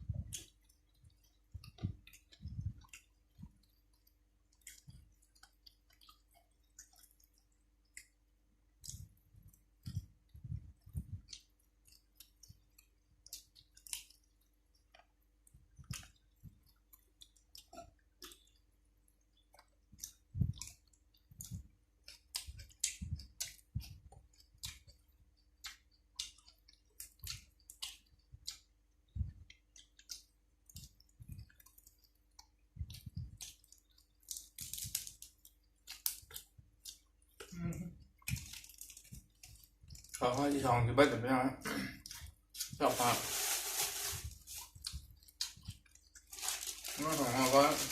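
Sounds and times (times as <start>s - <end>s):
chewing and crunching food: 0.0s - 41.2s, 41.9s - 47.9s
wet mouth clicks and smacks: 0.2s - 8.2s, 8.8s - 10.1s, 10.8s - 40.2s, 44.6s - 46.3s.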